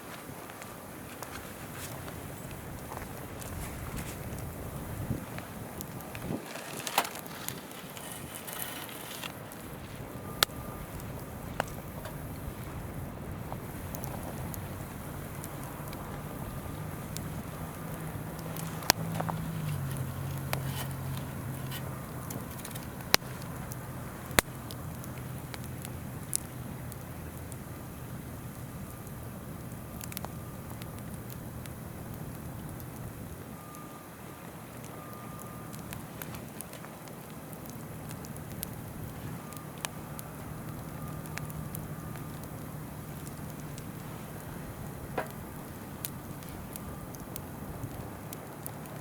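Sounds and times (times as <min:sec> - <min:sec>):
campfire crackling and popping: 0:00.0 - 0:49.0.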